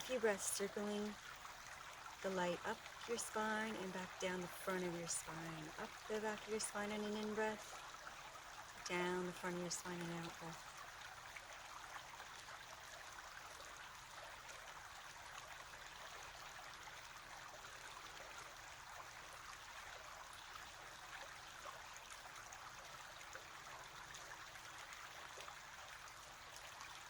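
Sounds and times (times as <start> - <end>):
stream flowing: 0.0 - 27.0.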